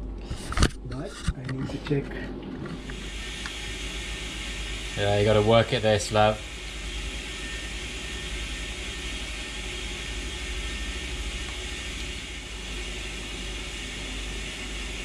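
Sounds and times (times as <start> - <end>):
generator machinery drone: 0.0 - 15.0.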